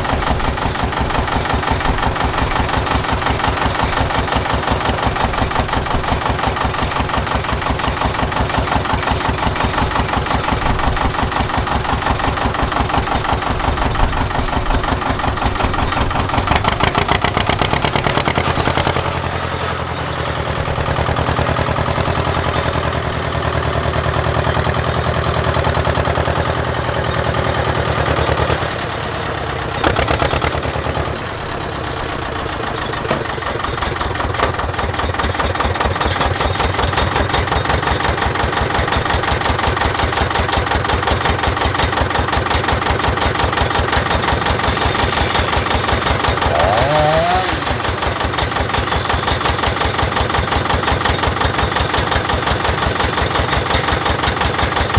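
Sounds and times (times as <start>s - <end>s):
engine idling with knocking: 0.0s - 54.9s.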